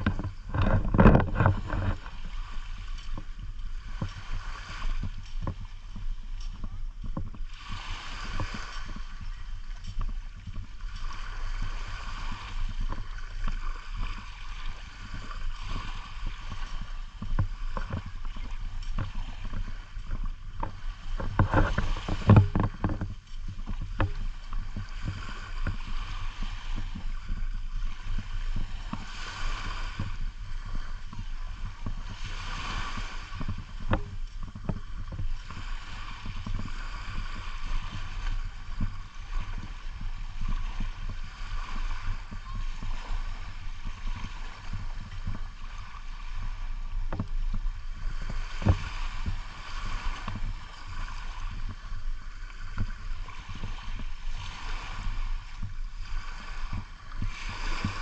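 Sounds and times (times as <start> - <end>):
small waves washing up: 0.0 - 58.0
wind buffeting microphone: 0.0 - 58.0.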